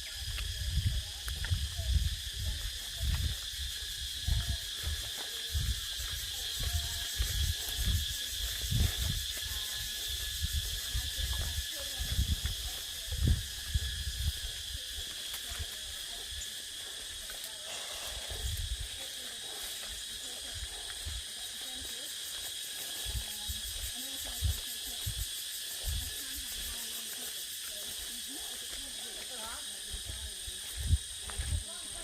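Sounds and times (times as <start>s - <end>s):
forest insects chorus: 0.0s - 32.0s
pulsing insect buzz: 0.0s - 32.0s.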